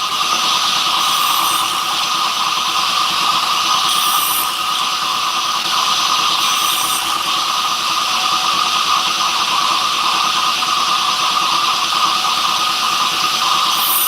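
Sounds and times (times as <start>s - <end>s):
power tool whirring: 0.0s - 14.0s.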